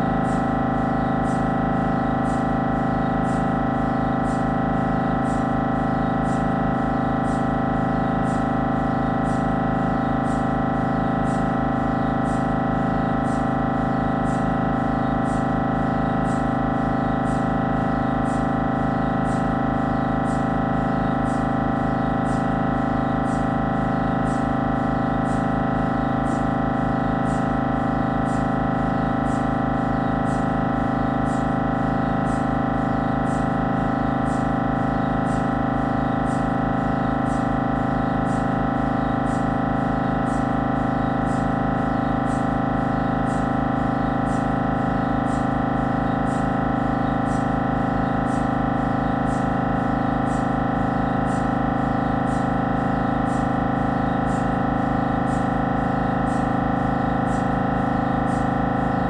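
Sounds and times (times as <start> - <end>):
mri scanner buzzing drone: 0.0 - 59.0.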